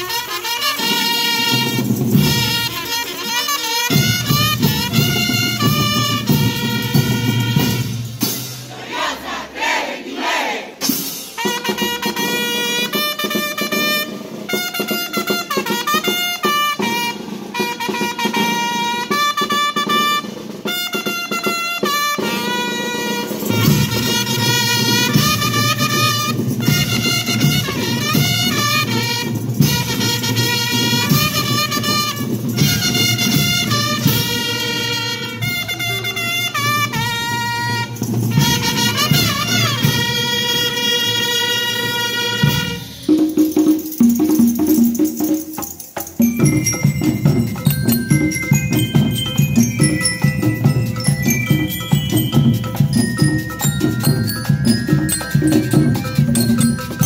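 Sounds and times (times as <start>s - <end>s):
drums: 0.0s - 57.0s
marching band brass playing: 0.0s - 57.0s.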